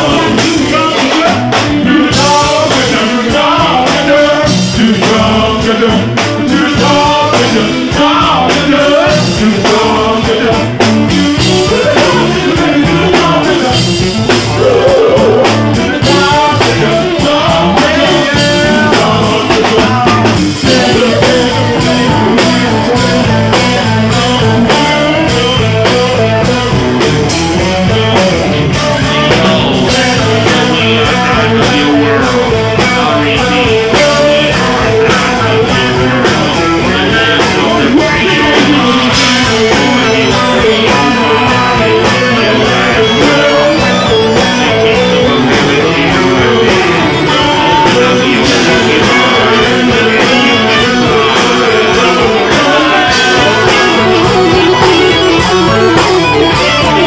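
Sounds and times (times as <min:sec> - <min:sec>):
drums: 0:00.0 - 0:57.0
electric guitar: 0:00.0 - 0:57.0
funk band playing: 0:00.0 - 0:57.0
person singing: 0:00.0 - 0:57.0.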